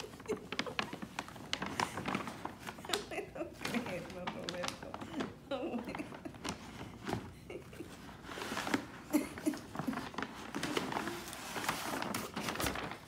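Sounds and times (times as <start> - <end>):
paper bag rustling: 0.0 - 13.0.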